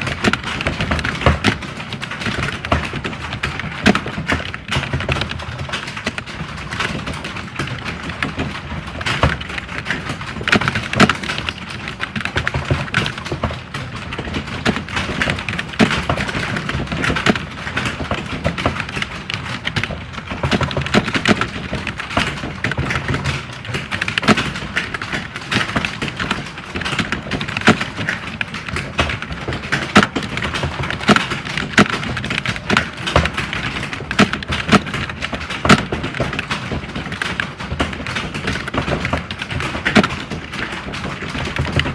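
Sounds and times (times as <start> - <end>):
computer keyboards typing: 0.0 - 41.9.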